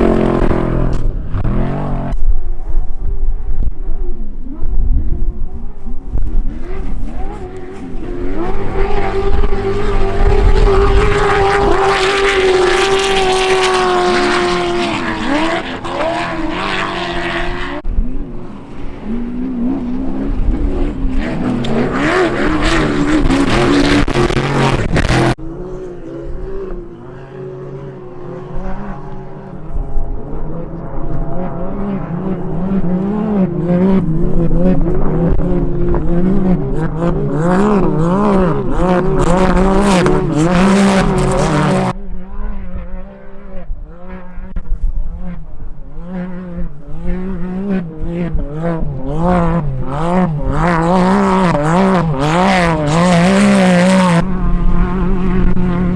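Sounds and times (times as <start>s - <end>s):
race vehicle engines revving: 0.0s - 55.9s.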